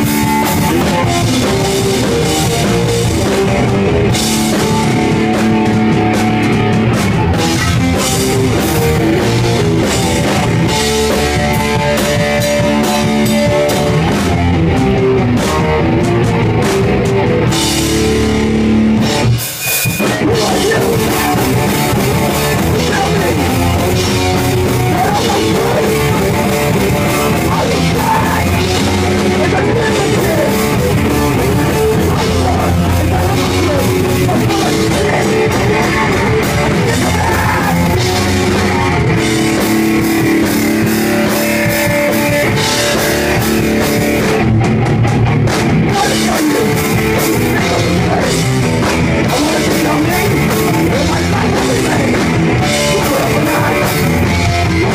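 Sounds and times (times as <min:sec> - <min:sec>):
distorted electric guitars: 0:00.0 - 0:54.9
drum kit: 0:00.0 - 0:54.9.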